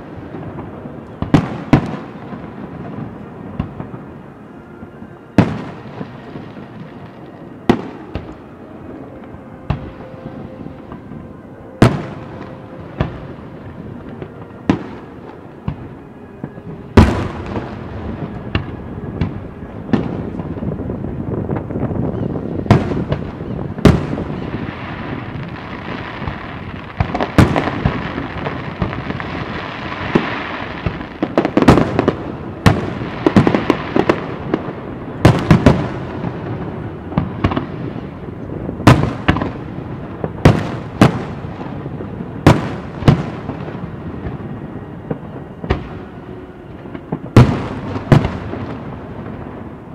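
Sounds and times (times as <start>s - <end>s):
fireworks crackling: 0.0s - 49.9s.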